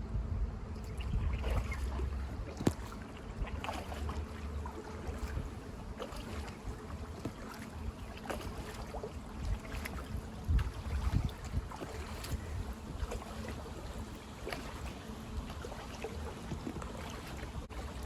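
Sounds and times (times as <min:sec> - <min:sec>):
wind rumble on microphone: 0:00.0 - 0:18.0
paddle strokes in water: 0:00.7 - 0:18.0
water splashes and drips: 0:00.7 - 0:18.0.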